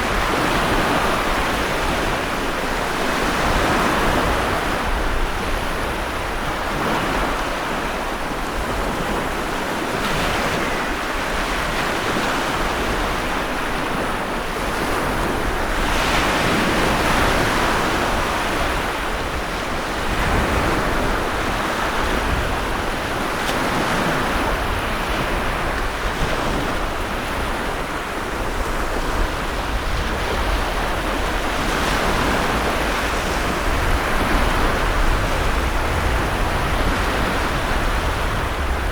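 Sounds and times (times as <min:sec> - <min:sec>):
heavy waves breaking: 0:00.0 - 0:38.9
wind: 0:00.0 - 0:38.9.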